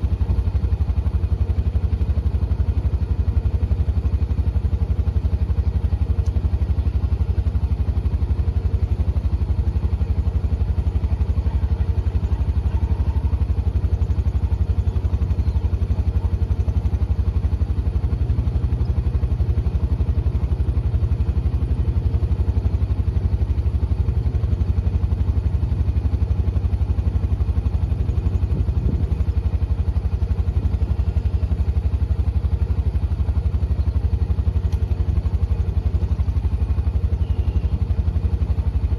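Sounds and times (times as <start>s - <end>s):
tractor diesel engine rumbling: 0.1s - 38.8s.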